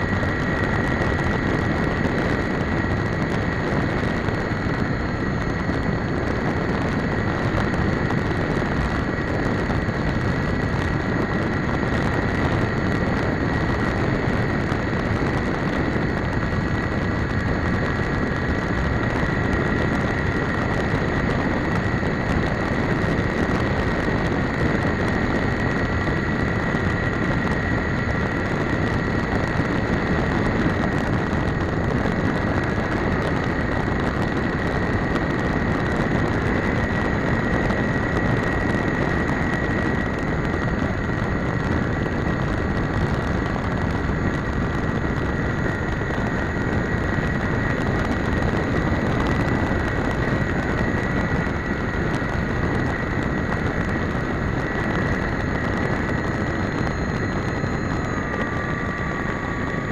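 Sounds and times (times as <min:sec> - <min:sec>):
electric motor whine: 0:00.0 - 0:59.9
wind rumble: 0:00.0 - 0:59.9.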